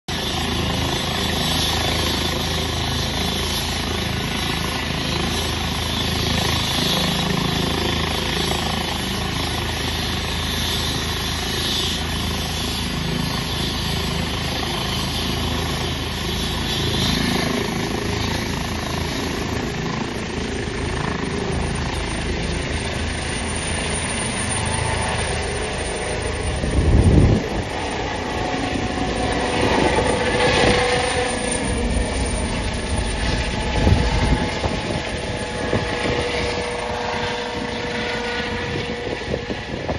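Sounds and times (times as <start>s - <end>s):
helicopter rotor and turbine: 0.1s - 39.9s
low rush overhead: 0.1s - 39.9s.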